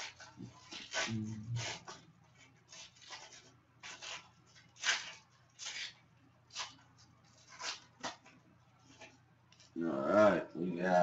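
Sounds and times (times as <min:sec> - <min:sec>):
cards rustling: 0:00.0 - 0:09.8
foil wrapper crinkling: 0:00.0 - 0:09.8.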